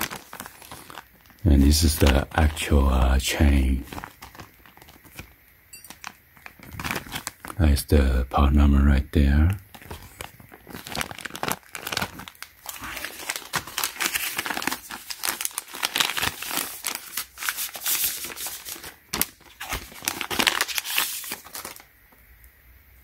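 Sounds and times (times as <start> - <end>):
paper sleeve rustling: 0.0 - 7.6, 9.7 - 21.9
plastic bag crinkling: 0.0 - 7.7, 9.6 - 21.9.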